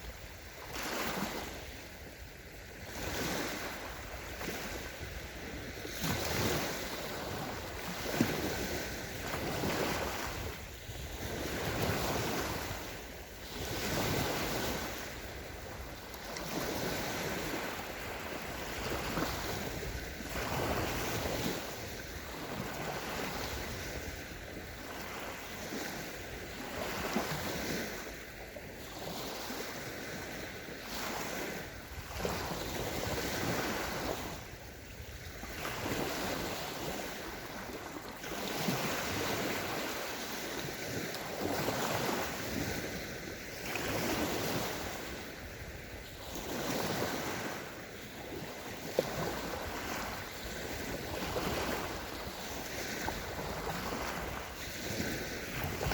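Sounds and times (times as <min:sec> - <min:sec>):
small waves breaking on beach: 0:00.0 - 0:55.9.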